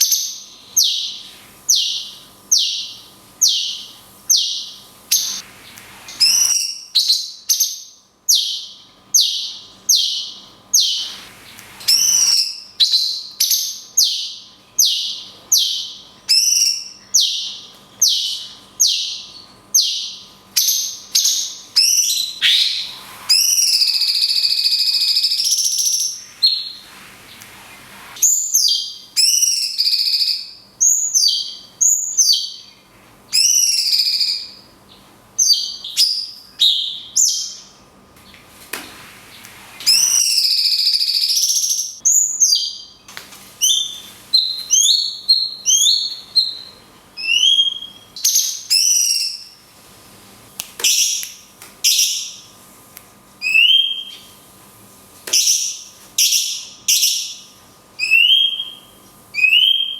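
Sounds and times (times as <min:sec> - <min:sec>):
bird whistling song: 0:00.0 - 0:32.7, 0:33.3 - 0:34.7, 0:35.4 - 0:37.8, 0:39.8 - 0:43.0, 0:43.6 - 0:49.6, 0:50.8 - 0:52.5, 0:53.4 - 0:54.4, 0:55.3 - 0:59.9.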